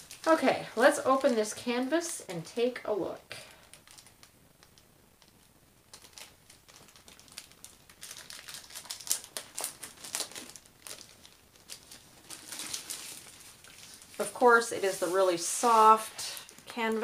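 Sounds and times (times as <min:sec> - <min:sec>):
plastic wrapping crinkling: 0:00.0 - 0:02.3, 0:03.4 - 0:17.0.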